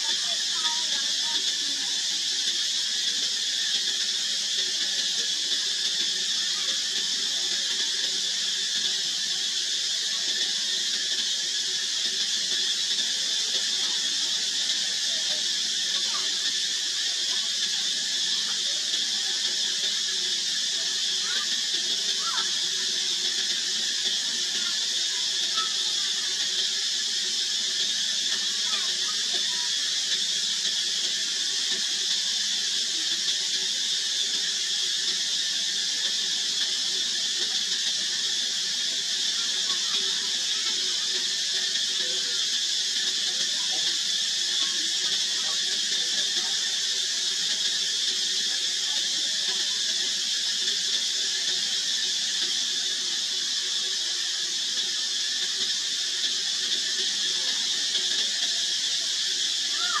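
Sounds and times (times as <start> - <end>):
insect chorus droning: 0.0 - 60.0.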